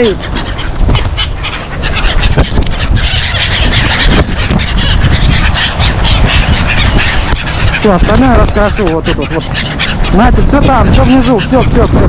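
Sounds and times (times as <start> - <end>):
gulls calling: 0.0 - 12.0
wings flapping: 0.0 - 12.0.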